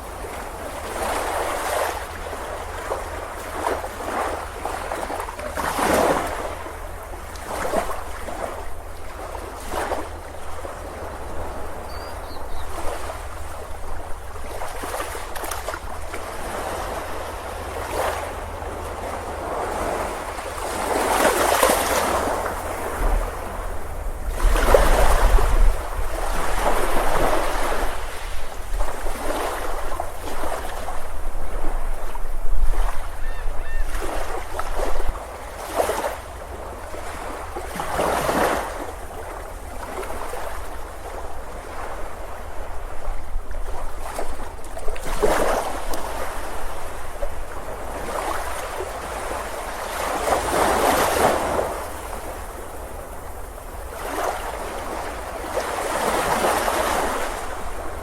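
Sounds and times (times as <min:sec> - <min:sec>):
ocean surf breaking: 0:00.0 - 0:43.2, 0:43.8 - 0:58.0
wind rumble on microphone: 0:00.0 - 0:58.0.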